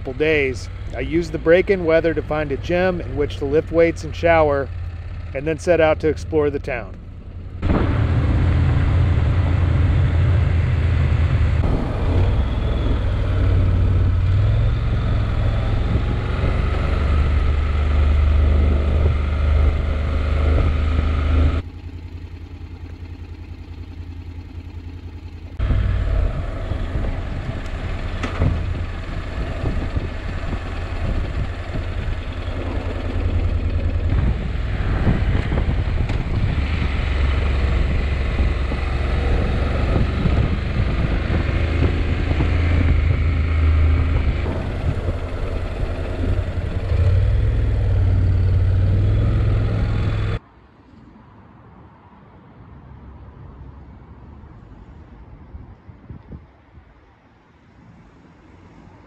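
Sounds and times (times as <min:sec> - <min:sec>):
motorcycle engine rumbling: 0:00.0 - 0:50.4
road noise: 0:00.0 - 0:59.0
street sound: 0:00.0 - 0:59.0.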